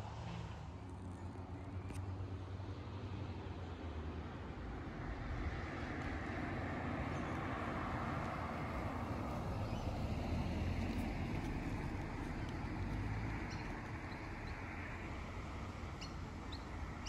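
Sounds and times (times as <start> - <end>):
car approaching: 0.0 - 17.0.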